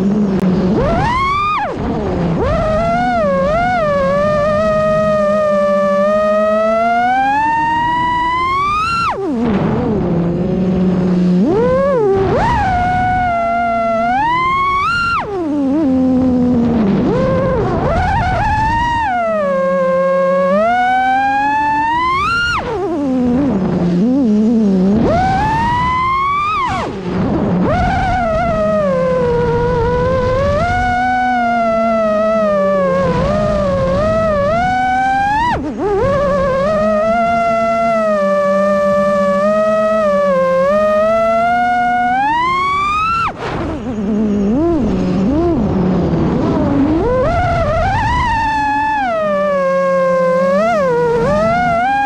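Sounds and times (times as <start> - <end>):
drone motors whining: 0.0 - 52.0.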